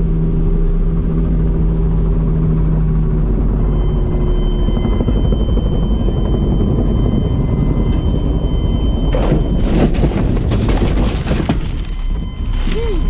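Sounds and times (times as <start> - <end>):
helicopter rotor and wind rumble: 0.0 - 13.0.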